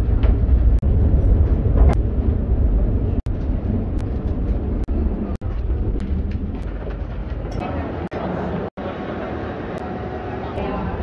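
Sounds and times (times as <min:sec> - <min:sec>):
train running low rumble: 0:00.0 - 0:11.0.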